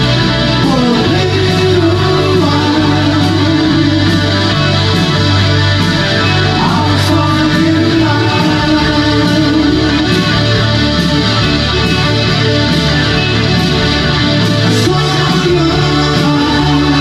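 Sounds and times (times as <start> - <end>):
bass line: 0.0 - 17.0
electric guitar: 0.0 - 17.0
steady beat: 0.0 - 17.0
synthesizer keyboard: 0.0 - 17.0.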